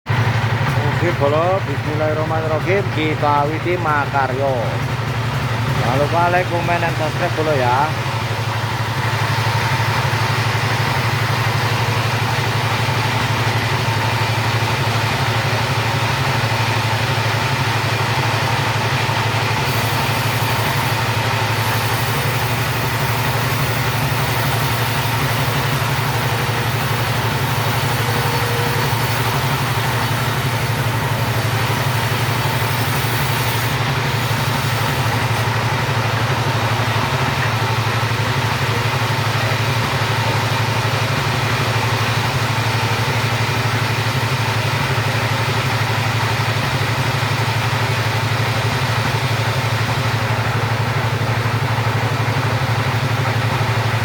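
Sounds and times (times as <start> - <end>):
chainsaw engine running: 0.1 - 54.0.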